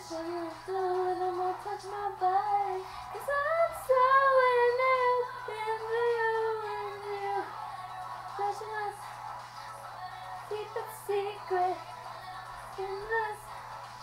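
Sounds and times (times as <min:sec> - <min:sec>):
girl singing without words: 0:00.0 - 0:09.1, 0:09.9 - 0:13.6.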